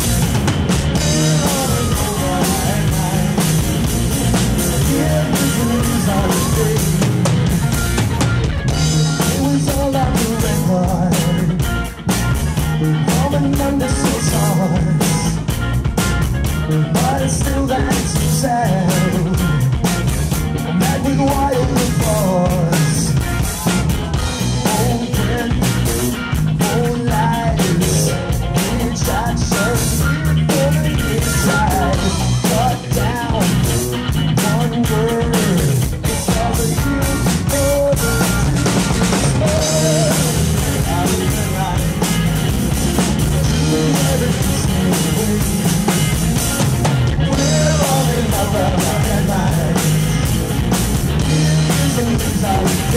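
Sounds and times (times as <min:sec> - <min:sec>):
drum kit steady beat: 0:00.0 - 0:52.9
electric guitar: 0:00.0 - 0:52.9
man singing: 0:00.9 - 0:07.8, 0:08.7 - 0:11.9, 0:12.5 - 0:15.6, 0:16.4 - 0:20.0, 0:20.6 - 0:50.5, 0:51.1 - 0:52.9.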